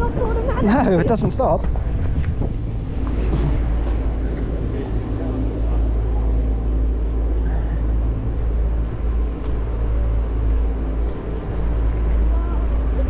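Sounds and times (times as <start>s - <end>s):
faint mechanical hum: 0.0s - 13.0s
wind buffeting microphone: 0.0s - 13.0s.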